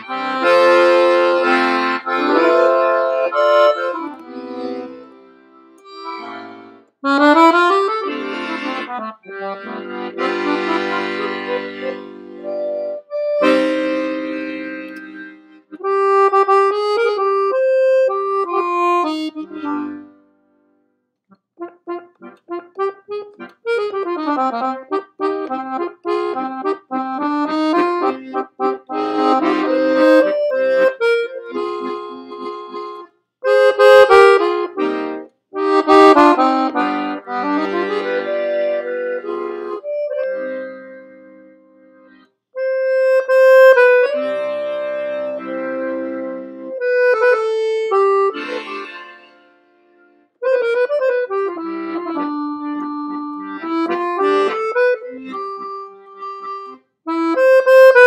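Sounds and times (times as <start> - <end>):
accordion playing waltz melody: 0.0 - 20.7, 21.6 - 58.0.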